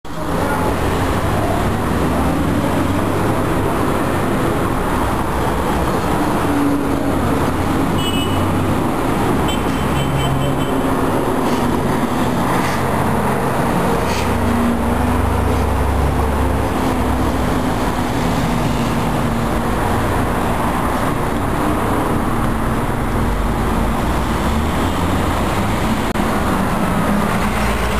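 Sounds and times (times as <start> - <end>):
vehicles rumbling past: 0.1 - 27.9.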